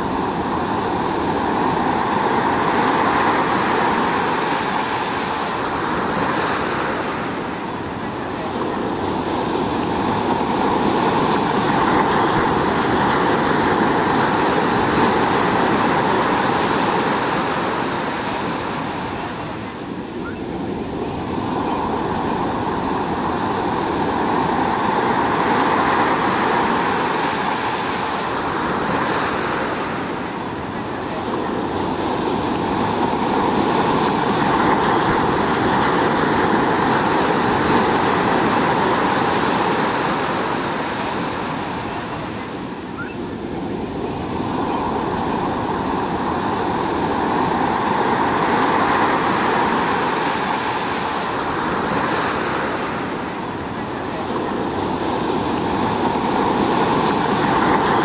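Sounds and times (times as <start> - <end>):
waves breaking on beach: 0.0 - 58.0.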